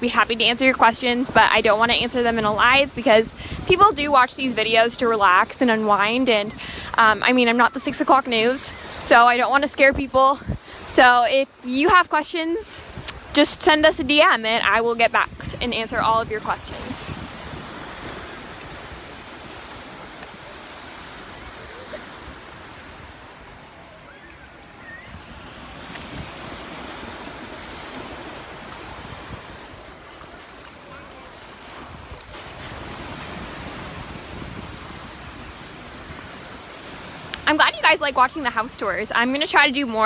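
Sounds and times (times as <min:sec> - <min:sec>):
surf washing ashore: 0:00.0 - 0:40.0
wind on microphone: 0:00.0 - 0:40.0.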